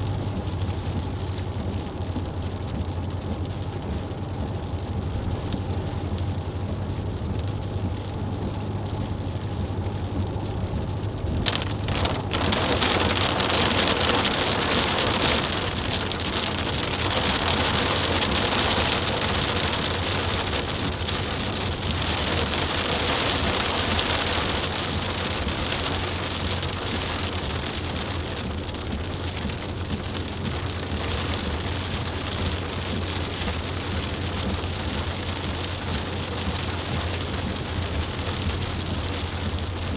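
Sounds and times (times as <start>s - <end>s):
engine and road drone: 0.0s - 39.9s
rain hitting a car: 0.0s - 39.9s.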